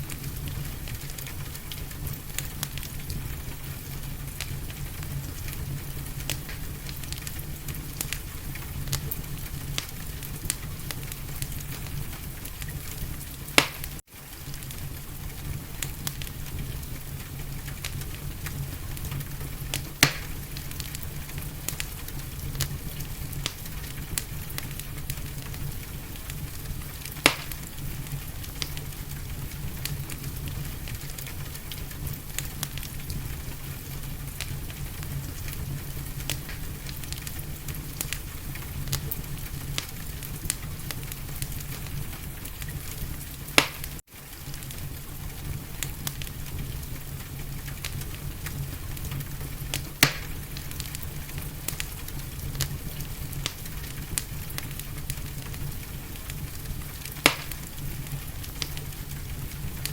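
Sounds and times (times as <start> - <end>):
low rumble and hiss: 0.0 - 59.9
wood fire crackling: 0.0 - 59.9.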